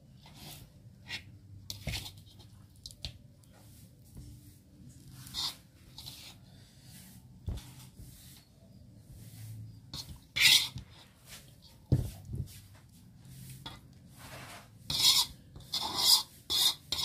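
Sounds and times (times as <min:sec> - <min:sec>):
food scraping on plate: 0:00.2 - 0:02.6, 0:03.4 - 0:08.5, 0:09.1 - 0:17.0.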